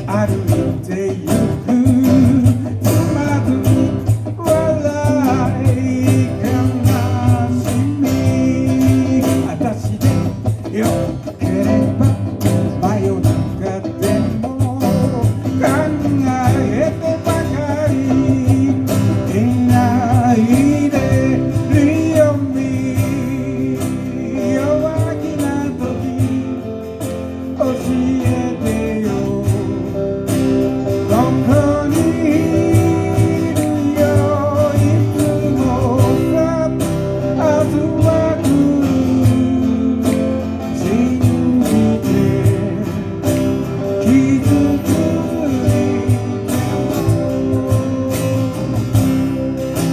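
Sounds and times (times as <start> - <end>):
person singing: 0.0 - 26.6, 30.9 - 49.9
guitar: 0.0 - 49.9
steady drum beat: 0.0 - 49.9.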